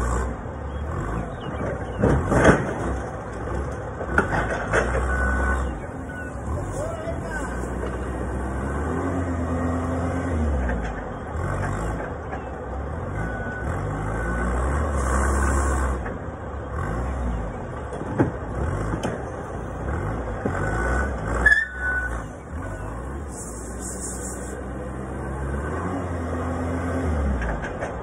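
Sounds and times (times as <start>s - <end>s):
forklift engine revving: 0.0s - 28.0s.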